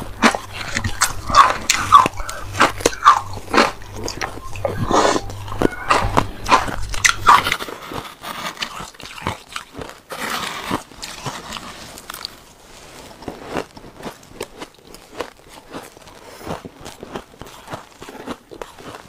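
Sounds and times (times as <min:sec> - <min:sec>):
chewing crunchy shaved ice: 0:00.0 - 0:19.0.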